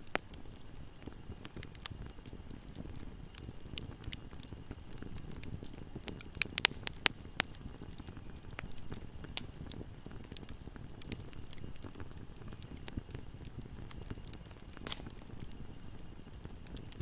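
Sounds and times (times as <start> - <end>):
campfire rumble: 0.0 - 17.0
fire pops and snaps: 0.0 - 17.0.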